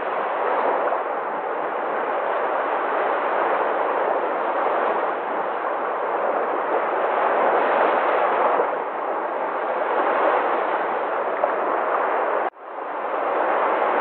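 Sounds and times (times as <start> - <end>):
sea waves breaking: 0.0 - 14.0.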